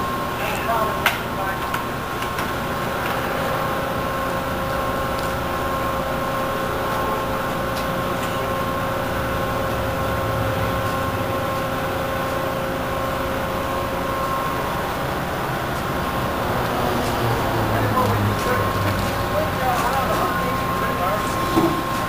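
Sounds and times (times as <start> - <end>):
forklift engine rumble: 0.0 - 22.0
steady high whine: 0.0 - 22.0.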